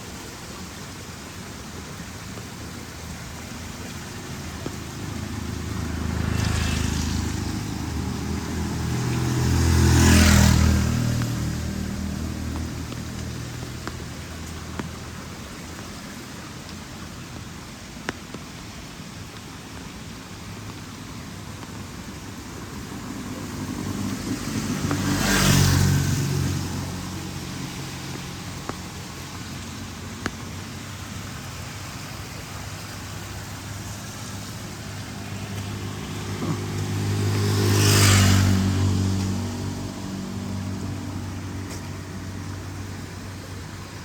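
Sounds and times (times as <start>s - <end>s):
rain hiss: 0.0s - 44.0s
vehicles passing by: 0.0s - 44.0s.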